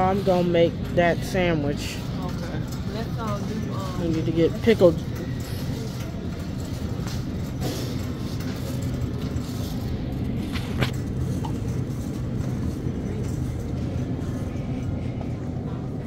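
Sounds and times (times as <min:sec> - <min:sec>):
refrigerator hum and rumble: 0:00.0 - 0:16.0.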